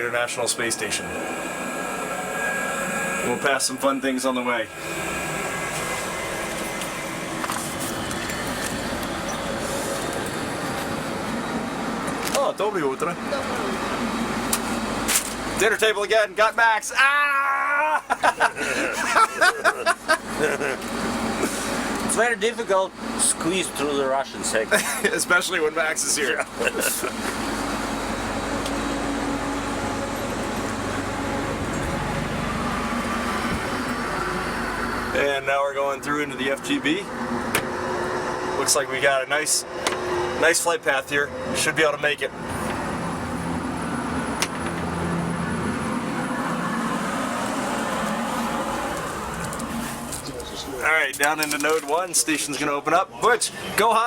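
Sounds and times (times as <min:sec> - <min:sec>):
ventilation fans humming: 0:00.0 - 0:54.0.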